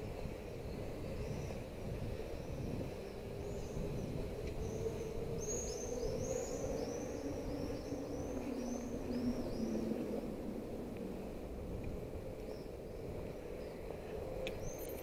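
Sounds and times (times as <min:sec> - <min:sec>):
street noise rumble: 0:00.0 - 0:15.0
faint falling drone: 0:00.7 - 0:15.0.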